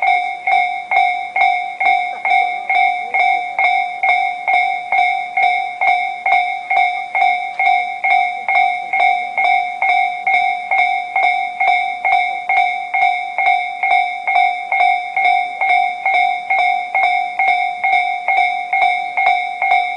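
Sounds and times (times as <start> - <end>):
level crossing warning bell: 0.0 - 19.9.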